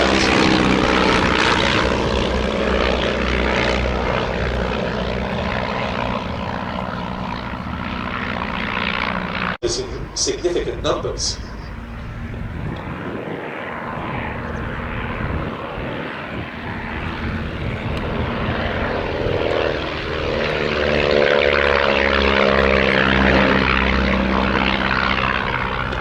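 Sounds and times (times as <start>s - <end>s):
propeller planes droning: 0.0s - 26.0s.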